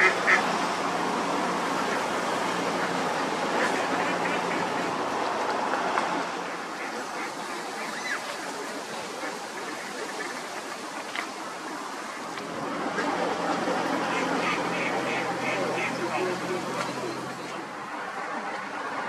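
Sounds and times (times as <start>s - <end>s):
boat engine hum: 0.0s - 19.0s
churned river water rushing: 0.0s - 19.0s.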